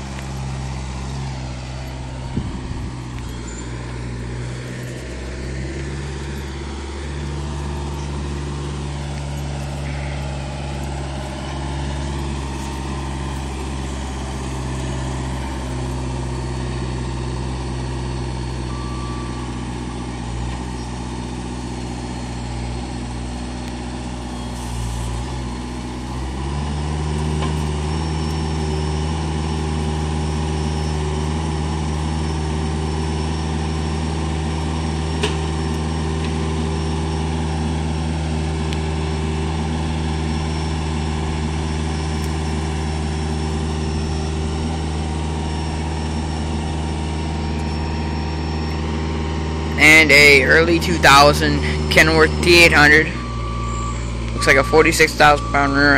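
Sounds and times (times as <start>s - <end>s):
diesel engines idling: 0.0s - 55.9s.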